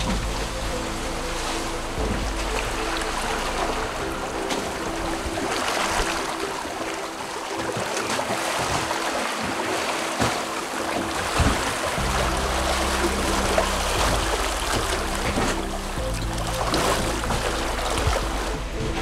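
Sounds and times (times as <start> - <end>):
held low music notes: 0.0 - 19.0
water rushing in a boat's wake: 0.0 - 19.0.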